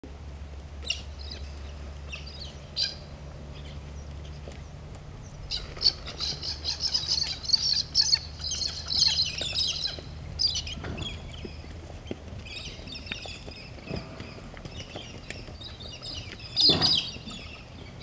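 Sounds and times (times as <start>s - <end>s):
steady low hum: 0.0s - 18.0s
birds chirping and squawking: 0.8s - 18.0s.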